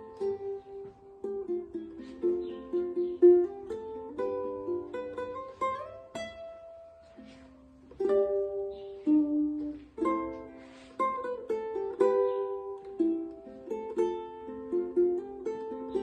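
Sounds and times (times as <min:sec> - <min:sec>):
ukulele plucked notes and chords: 0:00.0 - 0:16.0.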